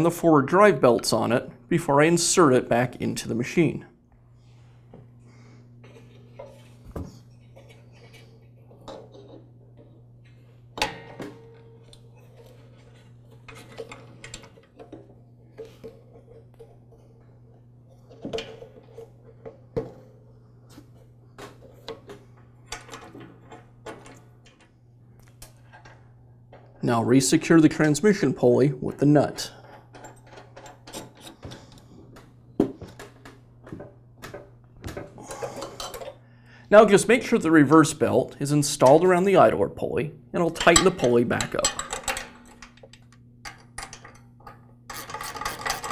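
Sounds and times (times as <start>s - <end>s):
steady low hum: 0.0s - 45.8s.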